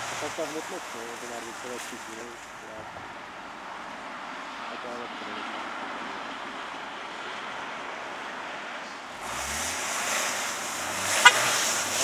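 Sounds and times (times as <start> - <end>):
car driving through snow: 0.0 - 12.0.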